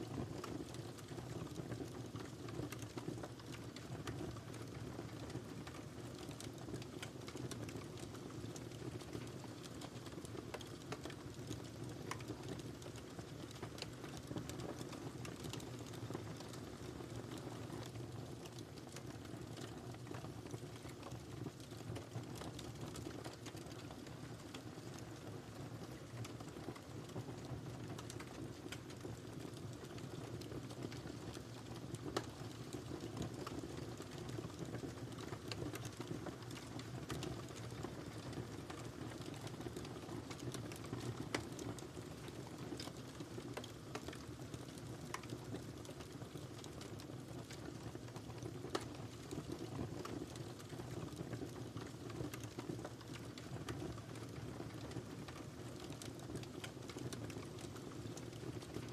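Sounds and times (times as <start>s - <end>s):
low rumble of burning: 0.0s - 58.9s
wood fire crackling: 0.1s - 58.9s.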